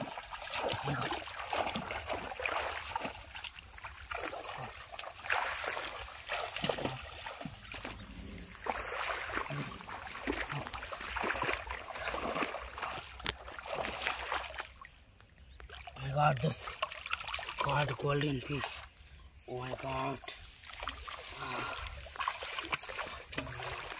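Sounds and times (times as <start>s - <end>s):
shallow water splashing: 0.0s - 19.0s, 19.6s - 23.9s.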